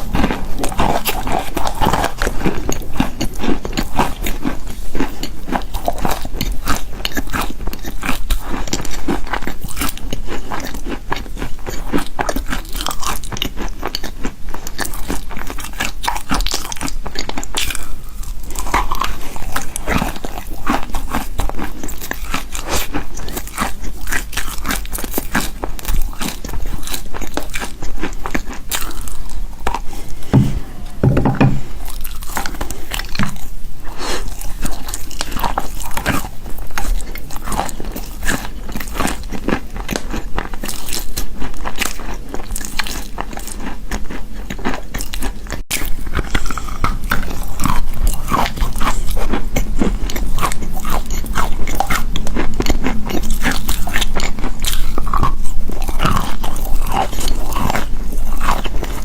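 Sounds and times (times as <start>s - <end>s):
chalk crunching while chewed: 0.0s - 30.4s, 32.0s - 59.0s.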